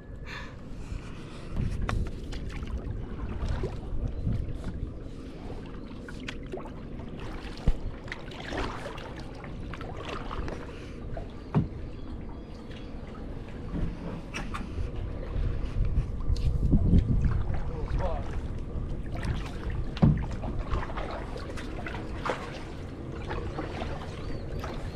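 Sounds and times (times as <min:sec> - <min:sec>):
wind rumbling on microphone: 0:00.0 - 0:24.9
water trickling and lapping: 0:00.7 - 0:24.9.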